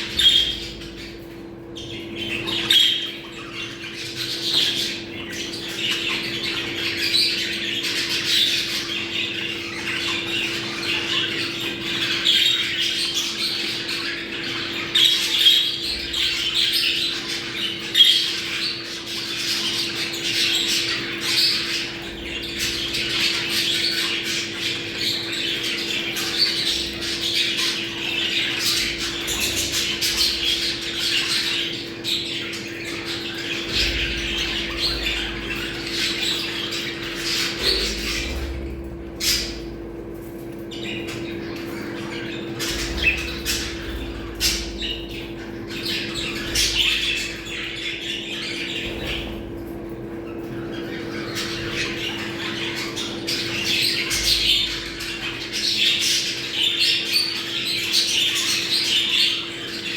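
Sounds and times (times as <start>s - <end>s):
budgerigars chattering: 0.0s - 59.9s
steady low hum: 0.0s - 59.9s.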